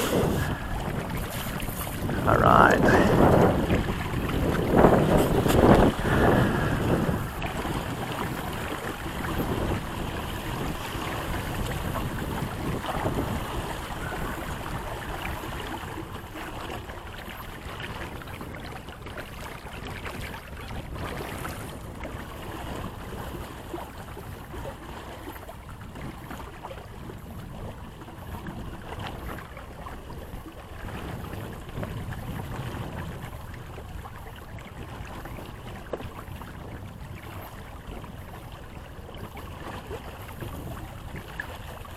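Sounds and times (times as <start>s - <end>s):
water rushing along hull: 0.0s - 41.9s
wind buffeting microphone: 0.0s - 41.9s.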